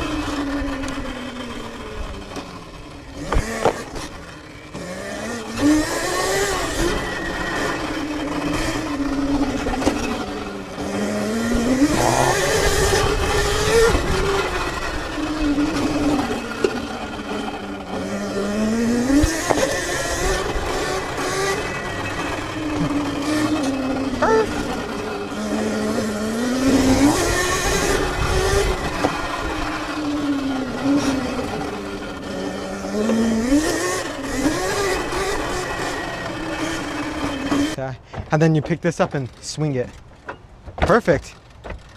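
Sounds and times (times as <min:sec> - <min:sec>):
electric dirt bike motor whining: 0:00.0 - 0:37.8.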